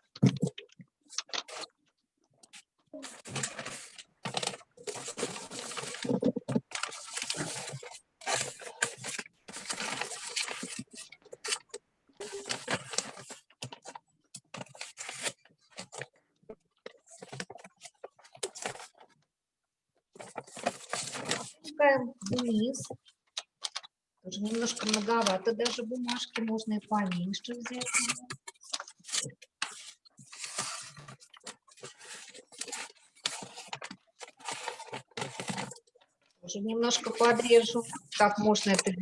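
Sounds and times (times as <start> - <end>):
wrapping paper crinkling: 0.4 - 1.8, 2.4 - 16.1, 20.2 - 39.0.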